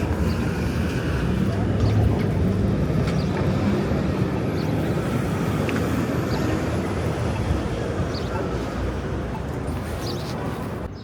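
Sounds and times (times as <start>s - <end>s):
city street traffic rumble: 0.0s - 11.0s.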